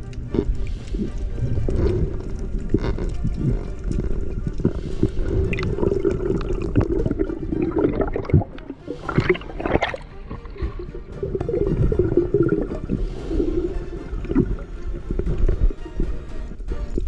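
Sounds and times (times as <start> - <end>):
underwater bubbling and gurgling: 0.0 - 17.0.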